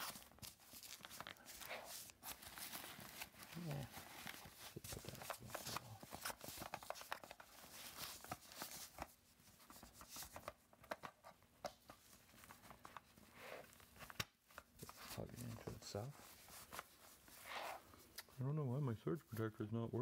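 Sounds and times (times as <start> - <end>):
rustling and scraping: 0.0 - 18.0.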